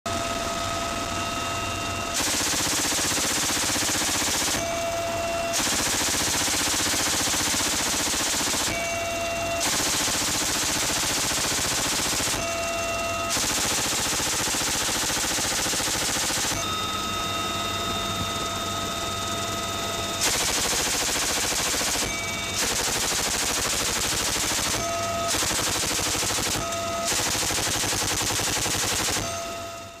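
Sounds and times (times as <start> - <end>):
helicopter turbine whine: 0.1 - 30.0
heavy machine gun bursts: 2.2 - 16.7, 19.8 - 29.6.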